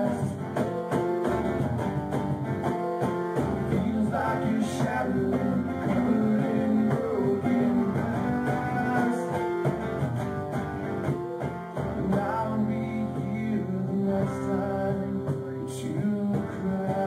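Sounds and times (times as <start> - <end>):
strummed acoustic guitar chords: 0.0 - 17.0.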